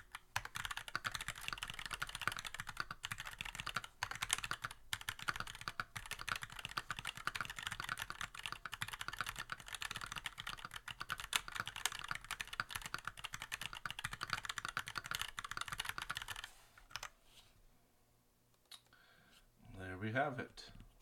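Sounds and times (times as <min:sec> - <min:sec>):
fast typing on keyboard: 0:00.0 - 0:17.1.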